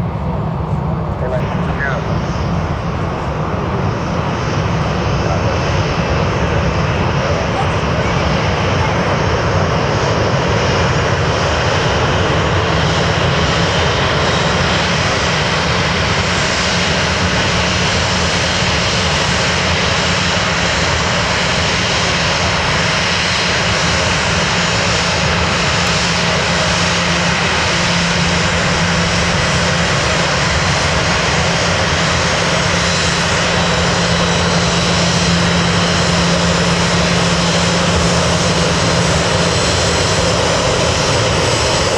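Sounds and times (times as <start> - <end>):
airliner engines running: 0.0 - 41.9.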